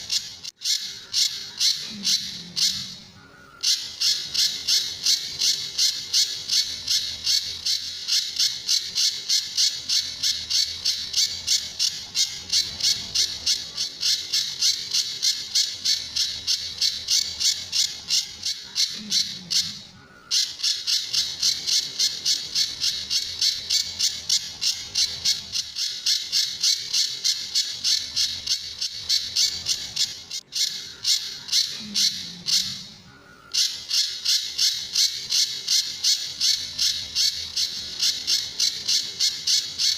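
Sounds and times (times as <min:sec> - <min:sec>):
bird calling in rapid sharp notes: 0:00.0 - 0:39.9.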